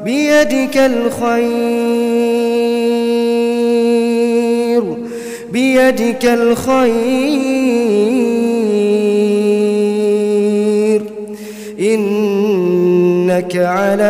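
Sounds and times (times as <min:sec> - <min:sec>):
man chanting melodically: 0:00.0 - 0:11.2, 0:11.8 - 0:14.0.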